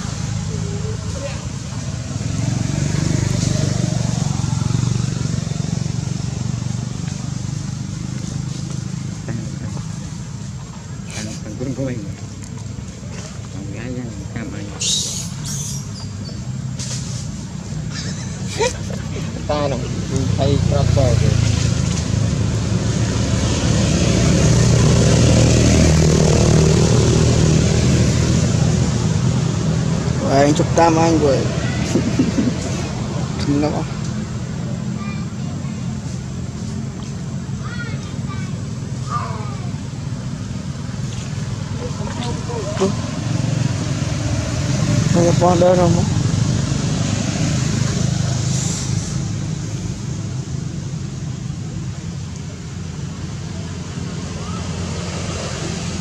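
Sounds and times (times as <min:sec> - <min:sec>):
engine humming loudly: 0:00.0 - 0:56.0.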